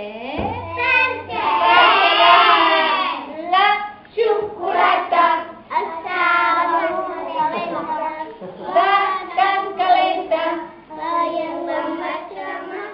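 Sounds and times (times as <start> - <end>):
young children singing: 0.4 - 12.9.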